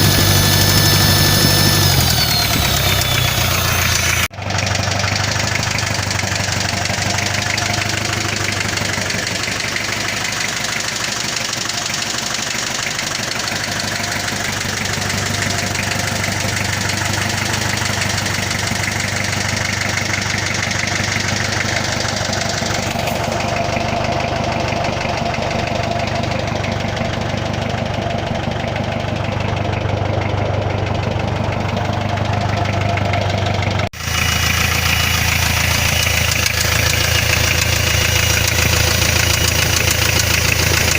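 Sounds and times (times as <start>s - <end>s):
knocking diesel engine running: 0.0s - 40.9s.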